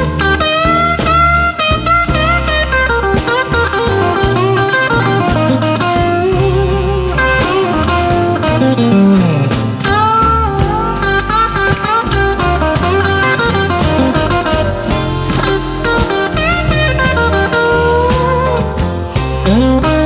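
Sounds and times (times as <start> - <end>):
electric blues band playing: 0.0 - 20.0
lead guitar bending notes: 0.0 - 20.0.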